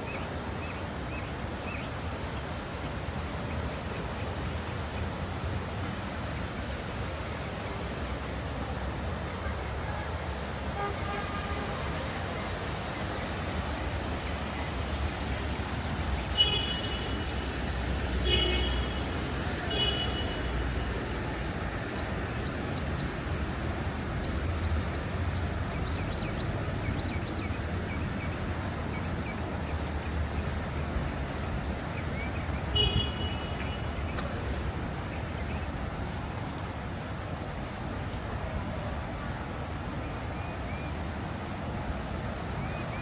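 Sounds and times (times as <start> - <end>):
low traffic rumble: 0.0 - 43.0
rain hiss: 0.0 - 43.0.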